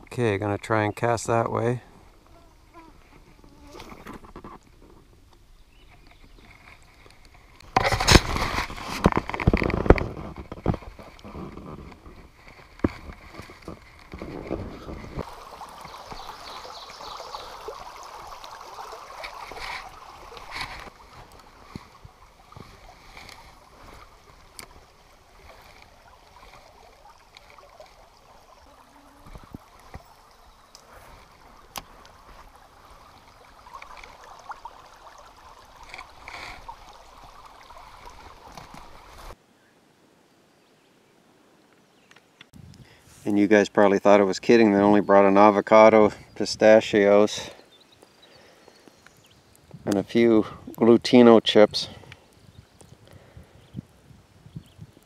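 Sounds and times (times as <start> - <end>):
creek trickling over rocks: 0.0 - 39.4, 42.7 - 55.0.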